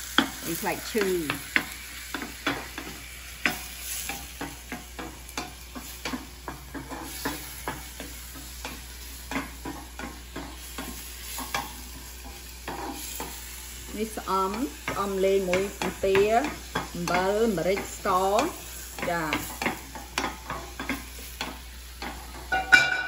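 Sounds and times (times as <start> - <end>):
meat sizzling in a skillet: 0.0 - 23.0
wooden spatula stirring: 0.1 - 22.8.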